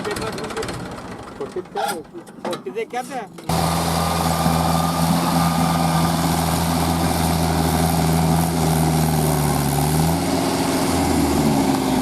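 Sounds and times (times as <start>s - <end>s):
tractor diesel engine running: 0.0s - 2.2s, 3.4s - 12.0s.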